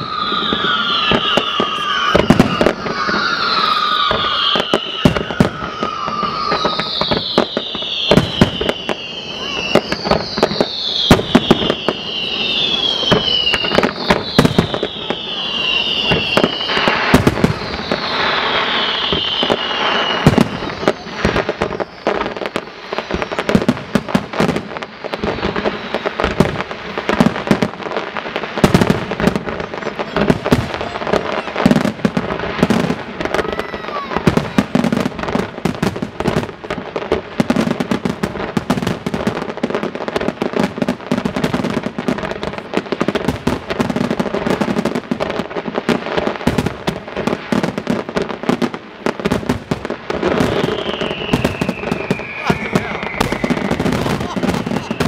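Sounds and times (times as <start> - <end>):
falling fireworks whistles: 0.0 - 55.0
fireworks bangs: 0.0 - 55.0
fireworks crackle: 0.0 - 55.0.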